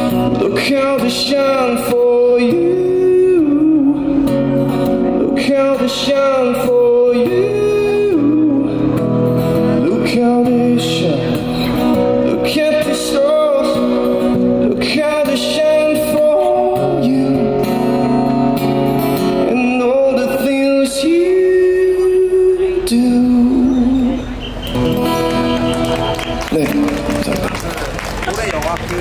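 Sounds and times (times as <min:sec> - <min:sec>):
man singing: 0:00.0 - 0:18.4, 0:19.3 - 0:24.4, 0:26.4 - 0:27.5
acoustic guitar strumming: 0:00.0 - 0:27.5.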